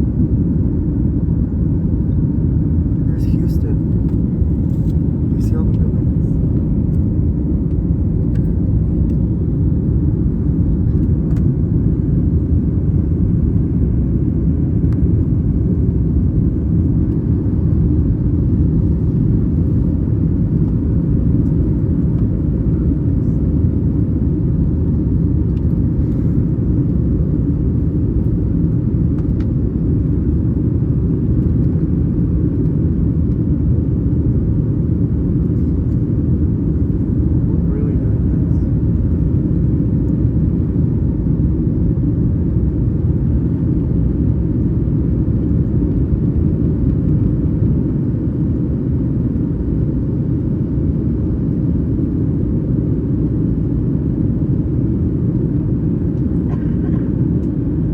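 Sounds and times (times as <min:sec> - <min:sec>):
airliner cabin rumble: 0:00.0 - 0:57.9.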